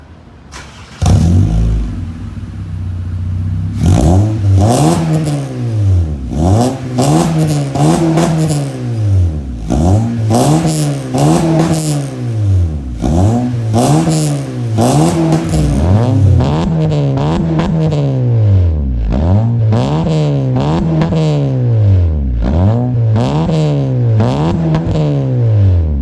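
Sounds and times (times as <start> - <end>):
car engine idling and revving: 0.0 - 26.0
car engine starting: 0.0 - 26.0.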